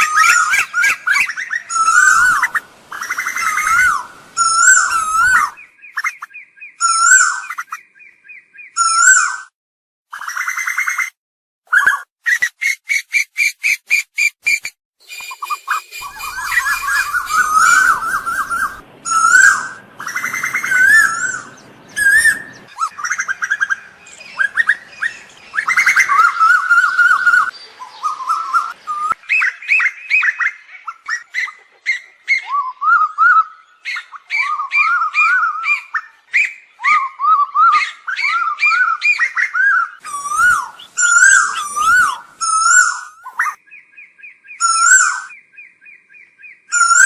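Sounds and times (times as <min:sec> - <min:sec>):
koel calling whistled notes: 0:00.0 - 0:07.8, 0:11.7 - 0:43.8, 0:44.5 - 0:46.0, 0:46.7 - 0:47.0.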